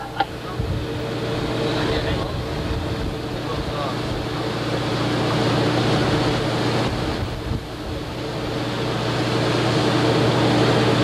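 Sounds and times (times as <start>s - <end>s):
boat engine droning: 0.0s - 11.0s
water noise: 0.0s - 11.0s
wind: 0.0s - 11.0s.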